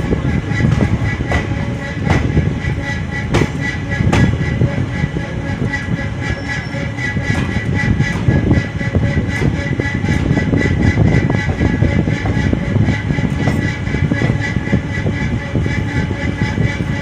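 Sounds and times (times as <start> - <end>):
high whine: 0.0 - 17.0
train wheels rumbling on rail: 0.0 - 17.0.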